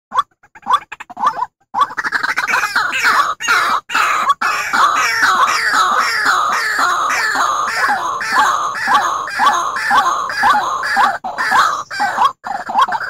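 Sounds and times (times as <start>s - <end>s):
harsh bird calls: 0.6s - 13.0s.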